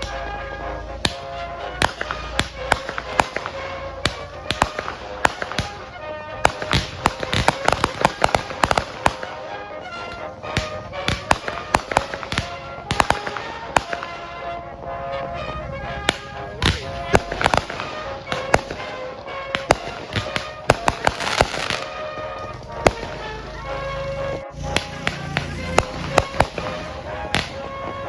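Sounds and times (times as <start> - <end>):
fireworks bangs and crackling: 0.0 - 28.0
music with a steady beat: 0.0 - 28.0.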